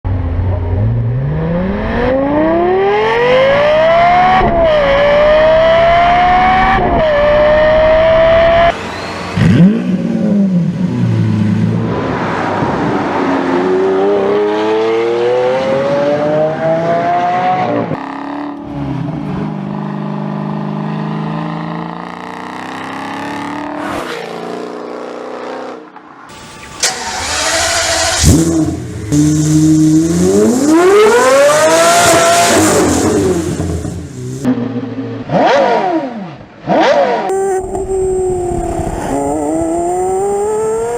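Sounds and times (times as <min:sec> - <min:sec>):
sports car engines accelerating: 0:00.1 - 0:40.9.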